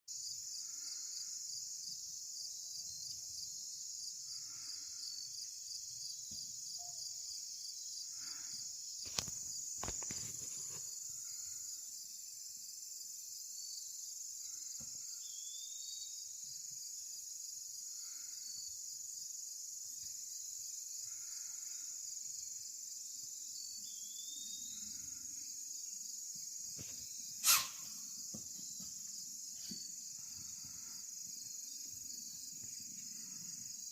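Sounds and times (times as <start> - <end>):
crickets and insects chirring: 0.1 - 33.9.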